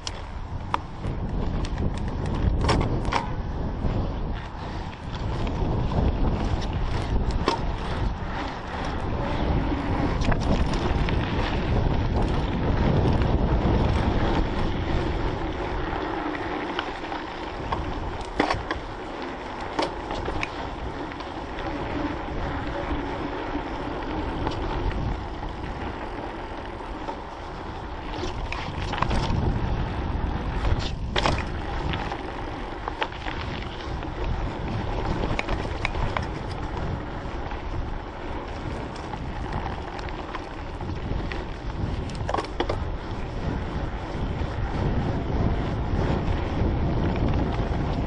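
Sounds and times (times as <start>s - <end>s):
bike rattling over bumps: 0.0s - 48.0s
bike tyre noise on dirt: 0.0s - 48.0s
wind buffeting microphone: 0.0s - 48.0s.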